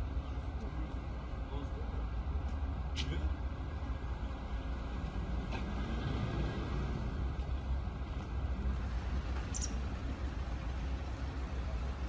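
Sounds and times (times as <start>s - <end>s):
low outdoor rumble with hiss: 0.0s - 12.0s.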